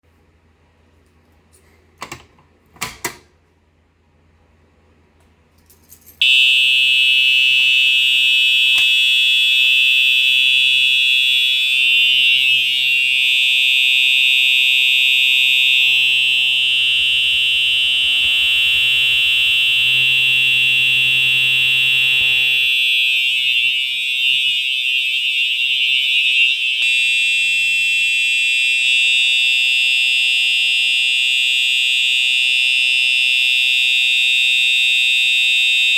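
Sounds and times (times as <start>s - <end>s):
fire alarm horns: 6.2s - 35.9s.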